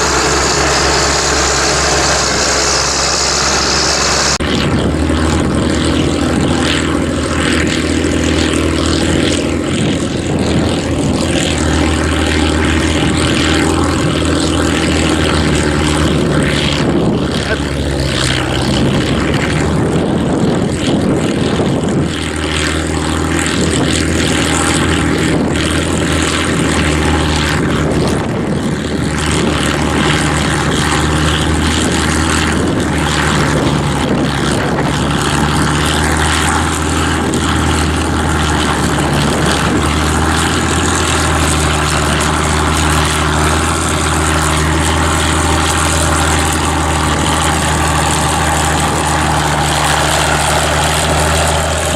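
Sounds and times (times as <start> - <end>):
tractor diesel engine running: 0.0 - 51.9
wind buffeting microphone: 0.0 - 51.9.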